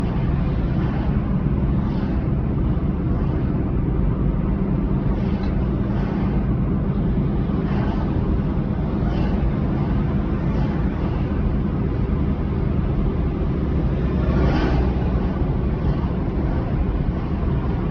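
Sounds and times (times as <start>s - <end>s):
car engine and tyre rumble: 0.0s - 17.9s.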